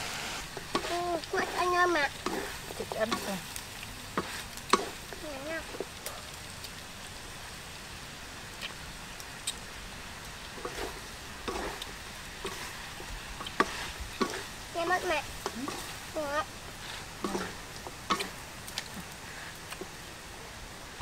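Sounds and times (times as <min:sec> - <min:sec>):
food sizzling in a pan: 0:00.0 - 0:21.0
small pops and crackles: 0:00.4 - 0:07.2, 0:08.4 - 0:20.0.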